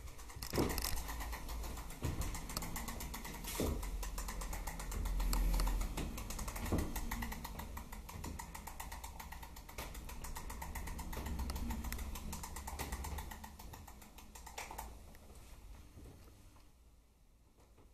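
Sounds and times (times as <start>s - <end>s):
fast mechanical clicking: 0.0s - 15.2s.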